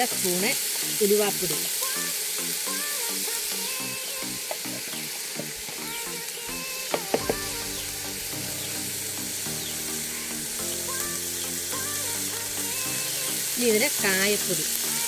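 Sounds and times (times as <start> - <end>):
background music: 0.0 - 15.0
pickle sizzling in hot oil: 0.0 - 15.0.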